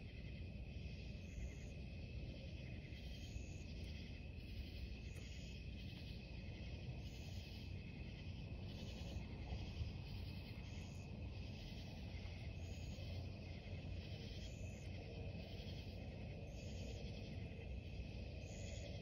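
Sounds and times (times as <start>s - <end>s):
night insects chirping: 0.0s - 19.0s.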